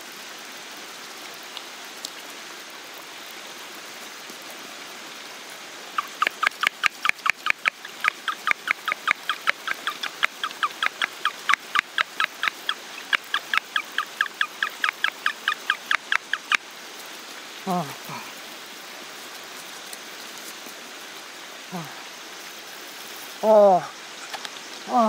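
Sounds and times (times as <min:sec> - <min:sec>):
water spray hissing on soil: 0:00.0 - 0:25.0.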